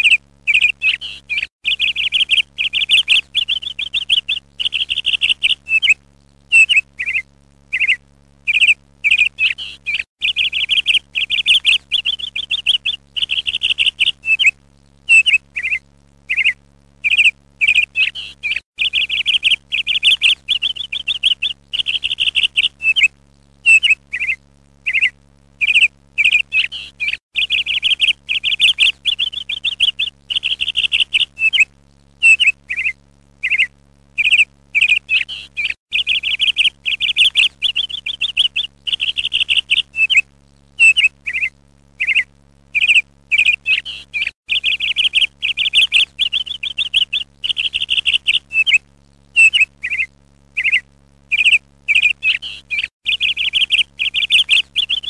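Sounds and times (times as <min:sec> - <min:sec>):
small bird trilling and chirping: 0:00.0 - 0:23.1, 0:23.7 - 0:40.2, 0:40.8 - 0:48.8, 0:49.4 - 0:55.0
faint low hum: 0:00.0 - 0:55.0.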